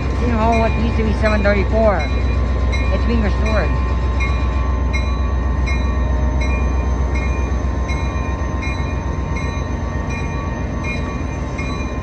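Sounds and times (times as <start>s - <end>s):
diesel locomotive engine rumbling: 0.0s - 12.0s
locomotive bell ringing: 0.0s - 12.0s.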